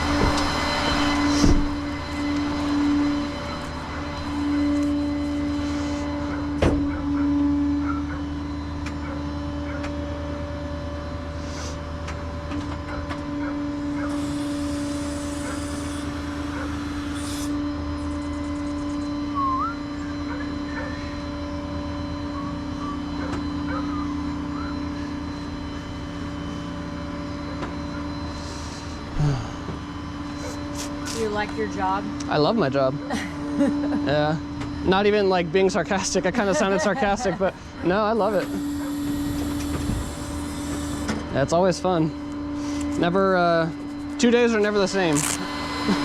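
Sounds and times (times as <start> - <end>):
truck engine droning hum: 0.0 - 46.0.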